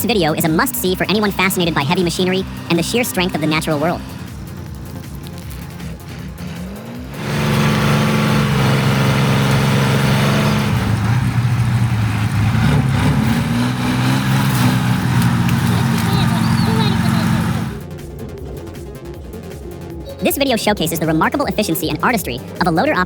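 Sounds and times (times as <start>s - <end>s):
tractor diesel engine revving: 0.0s - 23.0s.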